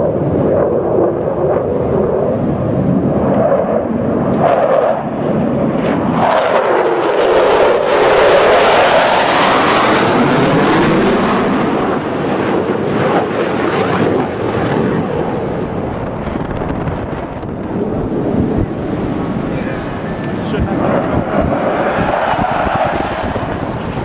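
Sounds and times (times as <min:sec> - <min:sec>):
fighter jet roaring past: 0:00.0 - 0:24.0.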